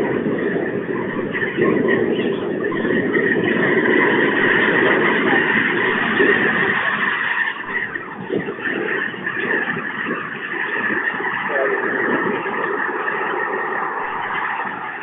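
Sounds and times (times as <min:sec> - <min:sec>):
flock of geese honking: 0:00.0 - 0:15.0.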